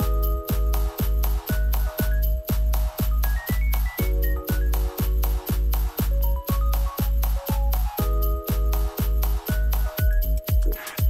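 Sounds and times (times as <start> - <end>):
electronic music: 0.0 - 11.0
kick drum beat: 0.0 - 11.0.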